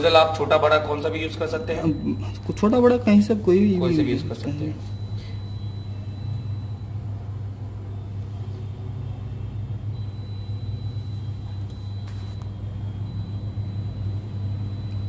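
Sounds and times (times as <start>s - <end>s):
hot air station humming and hissing: 0.0s - 15.0s.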